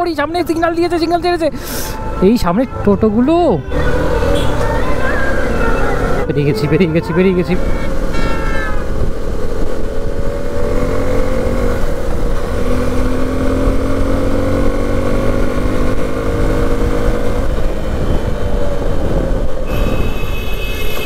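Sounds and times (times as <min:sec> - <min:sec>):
wind and road rumble: 0:00.0 - 0:21.0.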